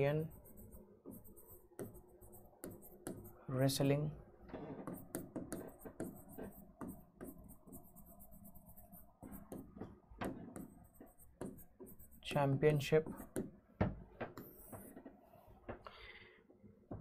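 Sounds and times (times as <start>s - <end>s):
stylus tapping and scratching on screen: 0.0s - 3.9s, 4.5s - 15.9s.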